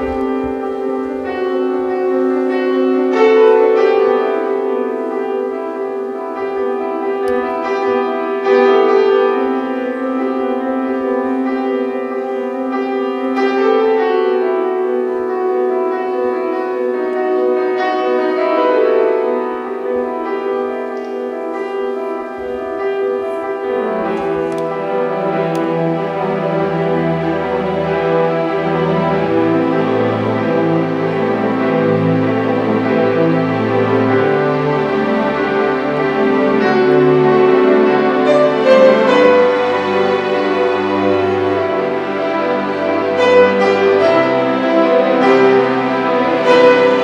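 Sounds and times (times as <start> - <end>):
slow classical piano music: 0.0 - 47.0.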